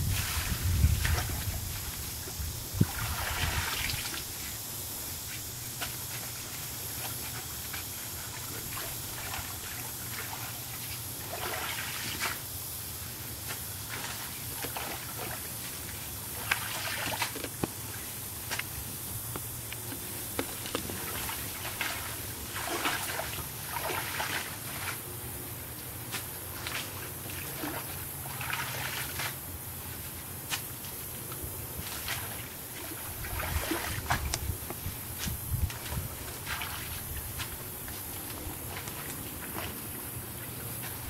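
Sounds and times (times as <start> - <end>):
water sloshing and trickling: 0.0 - 4.6, 5.4 - 12.5, 13.8 - 25.1, 25.9 - 29.5, 31.8 - 41.0.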